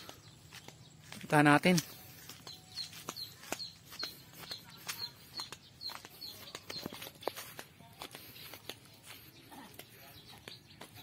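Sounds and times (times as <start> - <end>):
bird chirping: 0.0 - 11.0
footsteps on dry leaves: 0.0 - 11.0.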